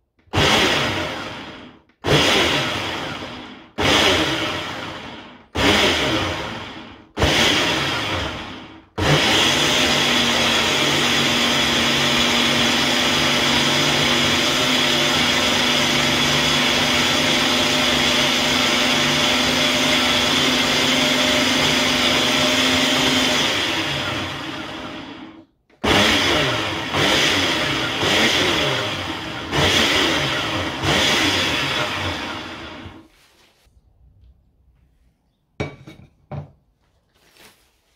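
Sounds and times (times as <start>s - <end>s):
blender motor running: 0.3s - 33.0s.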